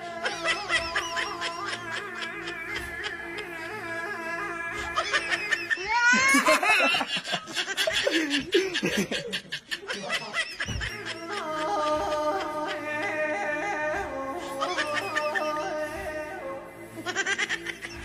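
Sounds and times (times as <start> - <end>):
music with held notes: 0.0 - 9.3, 10.2 - 18.0
girl laughing: 0.2 - 13.4, 14.5 - 15.7, 17.0 - 18.0.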